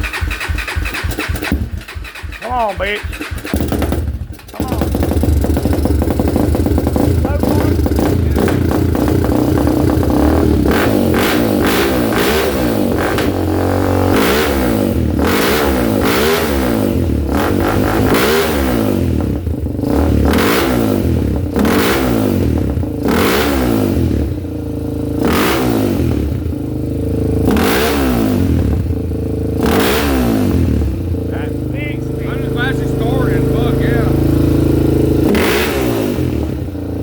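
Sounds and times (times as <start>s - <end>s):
quad engine revving: 0.0s - 37.0s.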